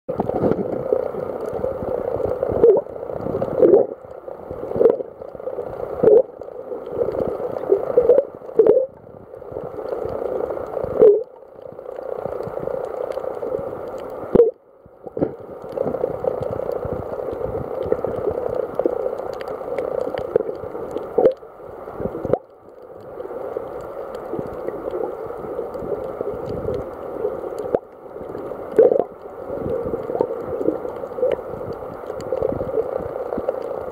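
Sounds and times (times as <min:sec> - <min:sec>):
water sloshing underwater: 0:00.1 - 0:33.9.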